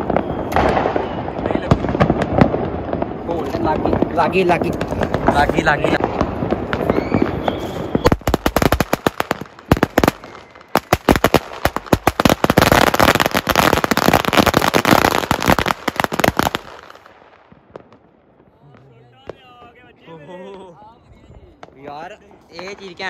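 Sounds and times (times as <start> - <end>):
firecrackers banging: 0.0 - 20.7.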